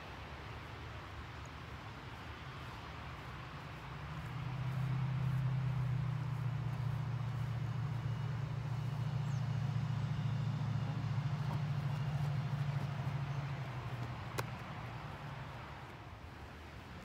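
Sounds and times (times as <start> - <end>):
motor engine low hum: 0.0 - 17.0.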